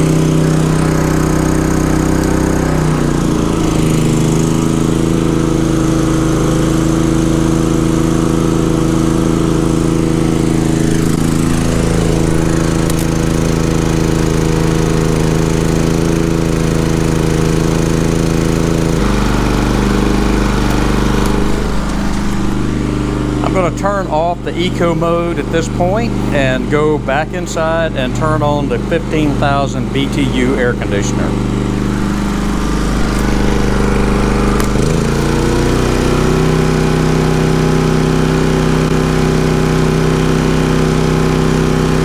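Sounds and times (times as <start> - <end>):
generator engine running: 0.0 - 42.0.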